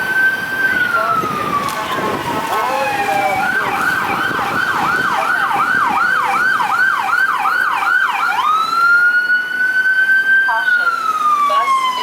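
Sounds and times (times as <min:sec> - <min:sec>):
electronic siren: 0:00.0 - 0:12.0.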